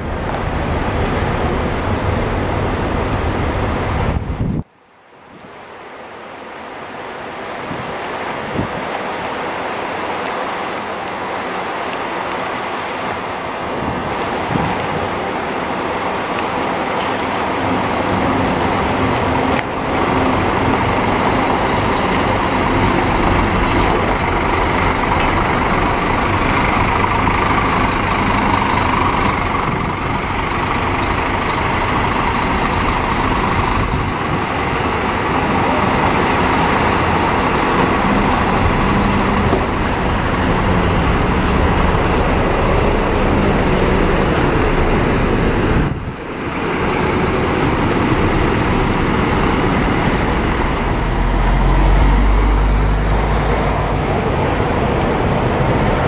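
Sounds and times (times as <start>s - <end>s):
diesel coach engine running: 9.6s - 56.0s.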